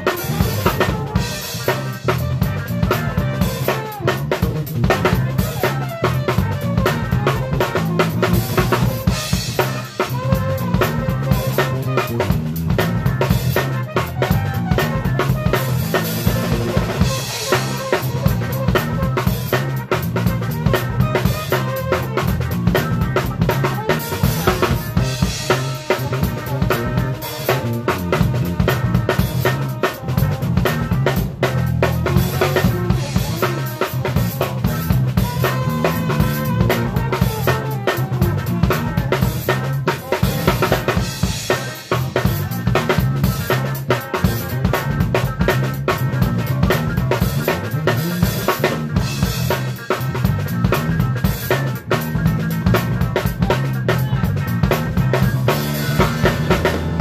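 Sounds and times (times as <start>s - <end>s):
drum kit groove: 0.0s - 57.0s
funk band playing: 0.0s - 57.0s.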